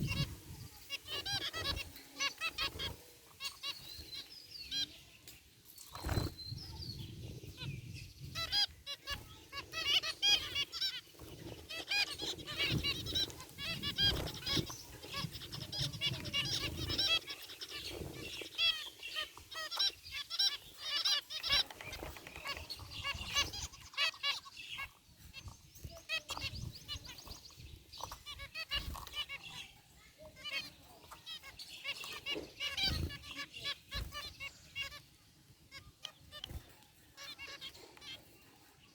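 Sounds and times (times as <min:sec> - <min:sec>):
finches calling: 0:00.0 - 0:05.2, 0:05.8 - 0:38.9.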